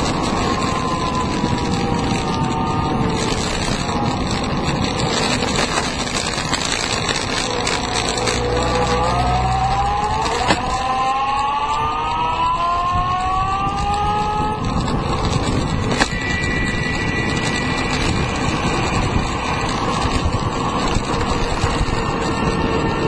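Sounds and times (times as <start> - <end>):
electric motor whining: 0.0 - 23.0
wheels rushing on asphalt: 0.0 - 23.0
wind: 0.0 - 23.0.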